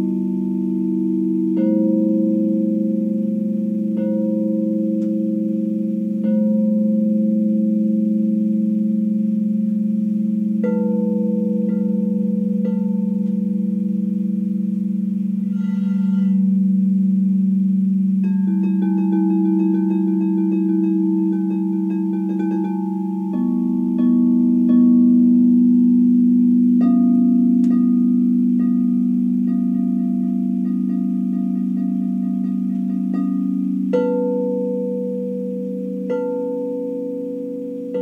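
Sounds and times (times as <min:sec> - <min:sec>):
singing bowls ringing: 0:00.0 - 0:38.0.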